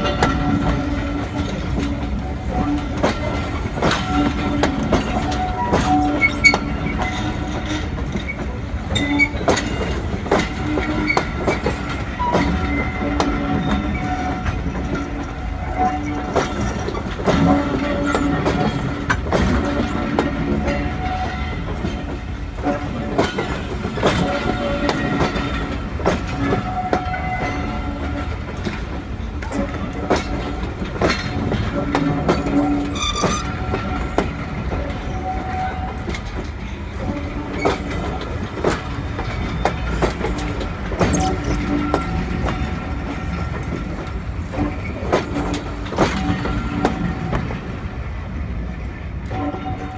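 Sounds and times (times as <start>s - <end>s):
train rumbling on rails: 0.0s - 49.9s.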